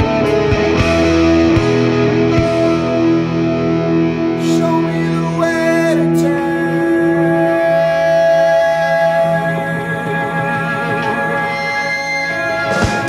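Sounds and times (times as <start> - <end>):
distorted guitar chords: 0.0 - 13.0
drums: 0.0 - 13.0.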